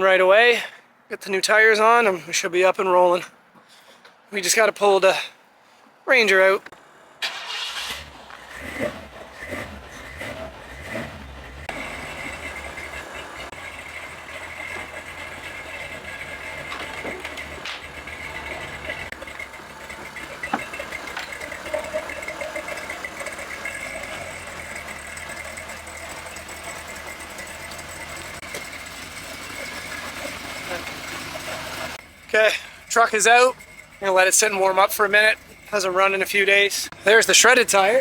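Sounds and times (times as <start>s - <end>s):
truck engine idling: 6.7s - 38.0s.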